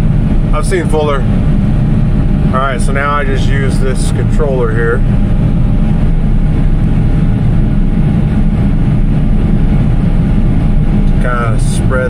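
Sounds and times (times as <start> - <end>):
faint steady whine: 0.0 - 12.0
farm machinery engine drone: 0.0 - 12.0.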